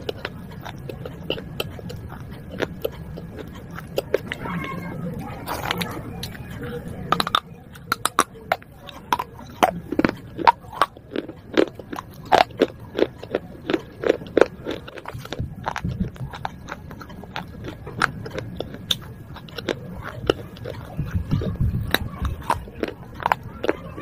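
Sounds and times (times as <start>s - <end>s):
brittle crunching: 0.0s - 4.7s, 5.4s - 24.0s.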